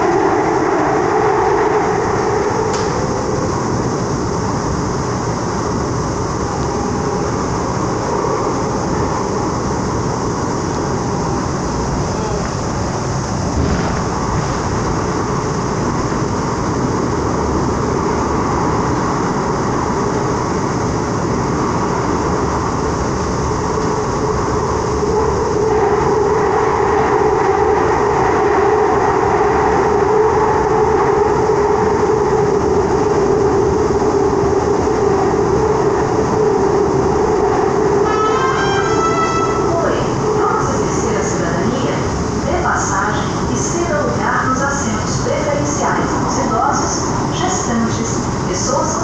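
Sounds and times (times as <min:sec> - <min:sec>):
metro train rumble: 0:00.0 - 0:49.0
steady whine: 0:00.0 - 0:49.0.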